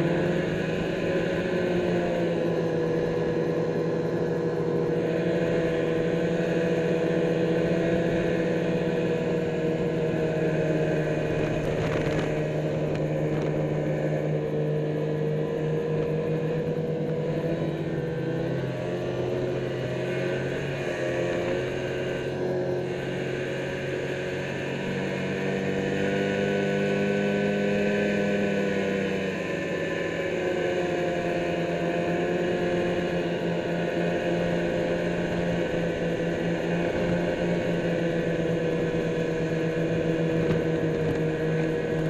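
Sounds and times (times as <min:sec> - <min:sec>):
snowmobile engine running: 0:00.0 - 0:42.0.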